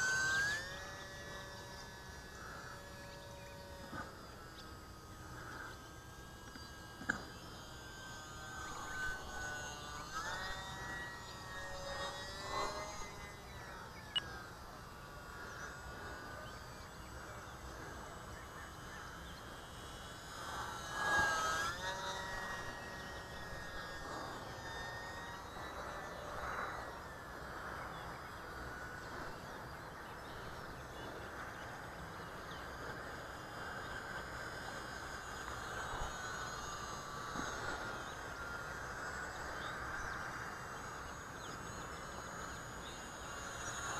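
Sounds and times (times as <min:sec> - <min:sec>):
small electric motor whining: 0:00.0 - 0:43.9.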